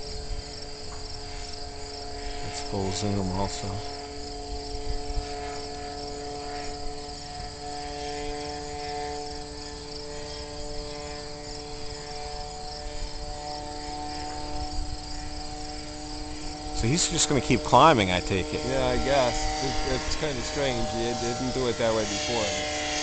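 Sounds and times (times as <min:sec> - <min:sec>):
crickets chirping: 0:00.0 - 0:23.0
distant engine drone: 0:00.0 - 0:23.0.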